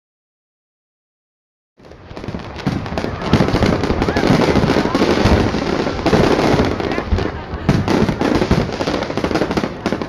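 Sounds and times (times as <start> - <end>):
fireworks bangs and crackling: 1.8 - 10.0.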